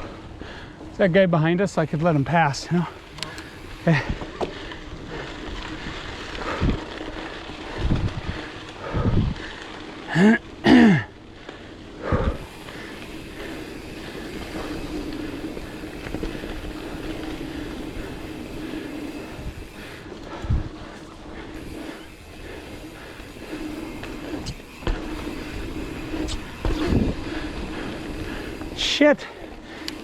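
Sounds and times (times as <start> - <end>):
rider breathing hard: 0.0 - 0.9, 2.7 - 30.0
mountain bike rolling on dirt: 0.0 - 30.0.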